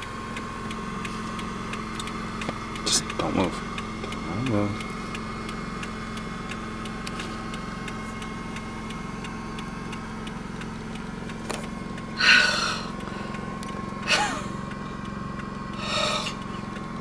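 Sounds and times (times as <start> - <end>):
car engine idling: 0.0 - 17.0
faint ticks: 0.3 - 17.0.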